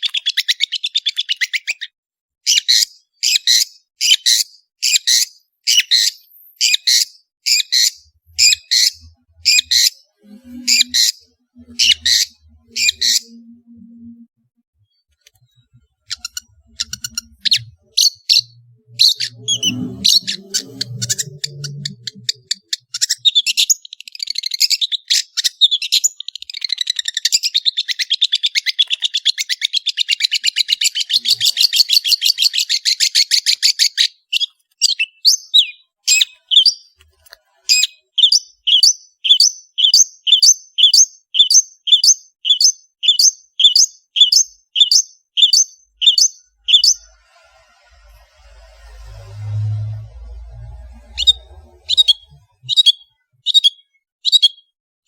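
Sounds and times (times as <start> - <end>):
bird singing varied song: 0.0 - 14.2, 14.9 - 37.0, 37.7 - 47.1, 49.4 - 54.8.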